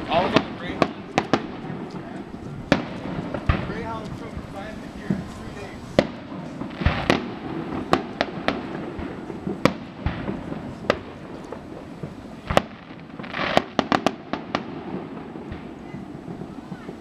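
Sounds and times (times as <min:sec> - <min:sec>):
firework bangs: 0:00.0 - 0:17.0
firework crackling and pops: 0:00.0 - 0:17.0.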